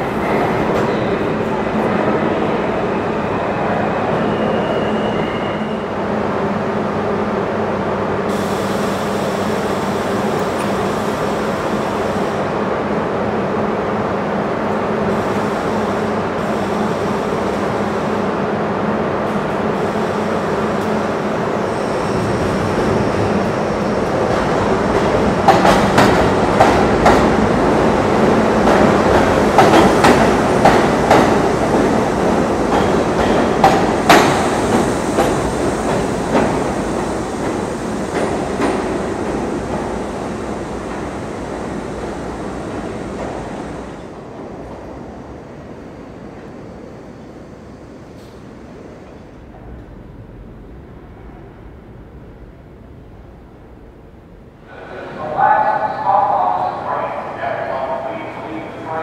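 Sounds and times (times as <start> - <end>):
subway train equipment hum: 0.0 - 59.0.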